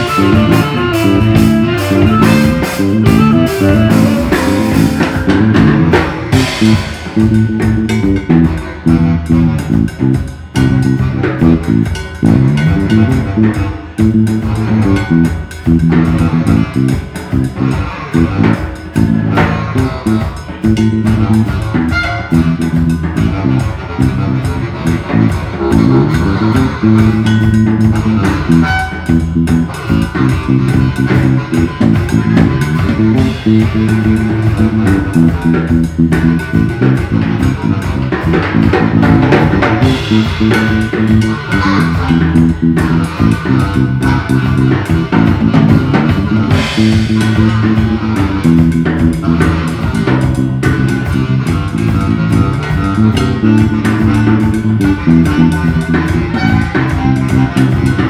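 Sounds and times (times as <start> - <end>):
bass and guitar riff: 0.0 - 58.0
drum kit: 0.0 - 58.0
saxophone: 0.0 - 58.0.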